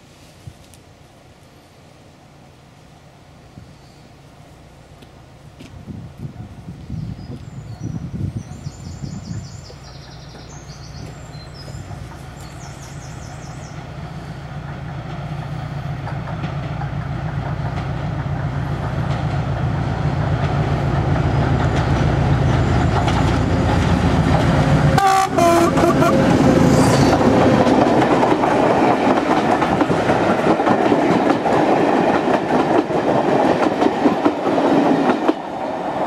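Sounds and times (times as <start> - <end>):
diesel locomotive engine rumble: 0.0 - 36.0.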